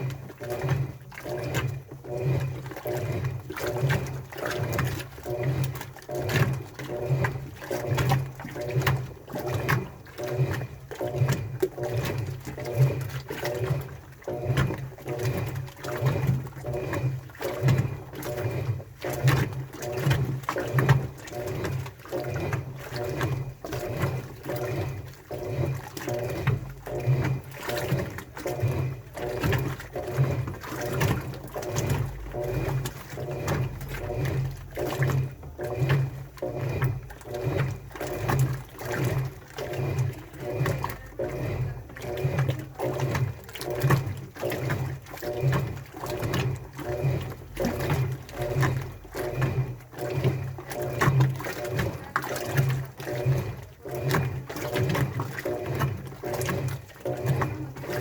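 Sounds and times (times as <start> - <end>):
low motor hum: 0.0 - 58.0
washing machine drum swishing: 0.0 - 58.0
water sloshing: 0.0 - 58.0.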